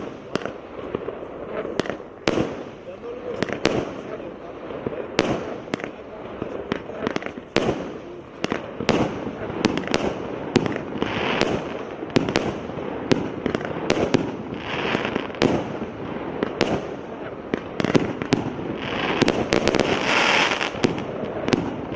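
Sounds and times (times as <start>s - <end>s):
crackle and hiss of bursting stars: 0.0s - 21.9s
firework bangs: 0.0s - 21.9s.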